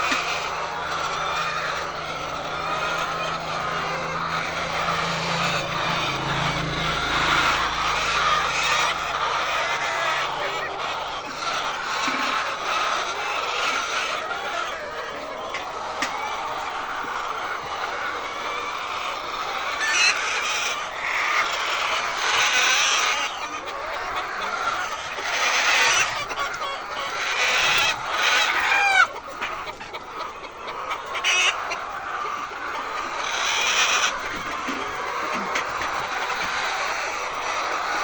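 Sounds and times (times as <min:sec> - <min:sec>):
hens clucking and squawking: 0:00.0 - 0:38.0.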